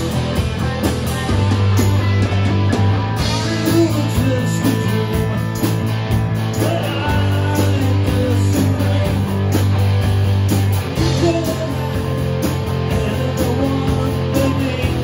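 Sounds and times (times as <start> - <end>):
bass notes: 0.0 - 15.0
drums with cymbal strokes: 0.0 - 15.0
electric guitar melody: 0.0 - 15.0.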